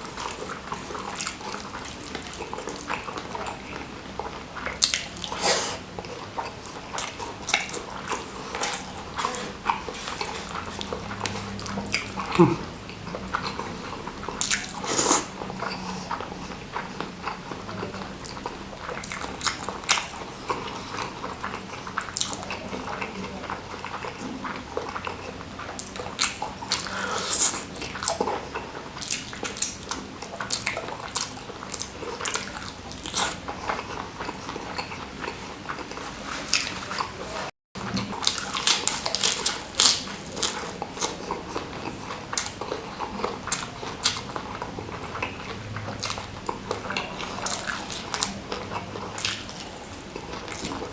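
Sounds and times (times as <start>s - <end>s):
crunchy chewing mouth sounds: 0.0s - 50.9s.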